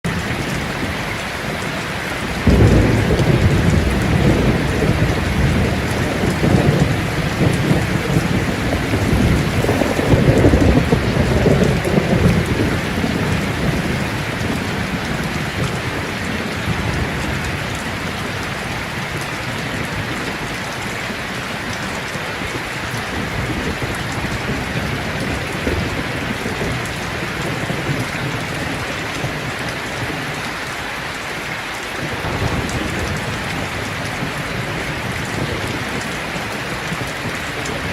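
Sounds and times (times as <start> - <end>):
heavy rain falling: 0.0 - 37.9
thunder rumbling: 0.1 - 30.4, 32.0 - 37.9.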